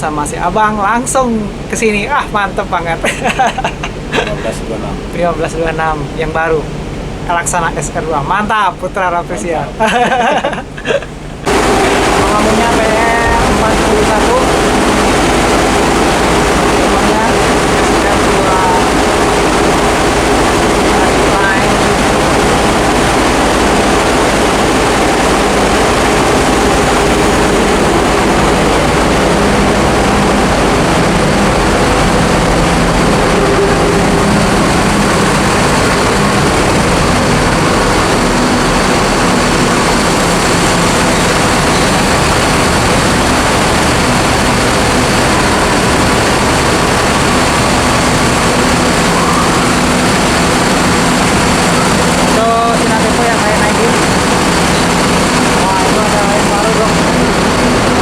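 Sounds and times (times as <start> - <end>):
heavy engines droning: 0.0 - 58.0.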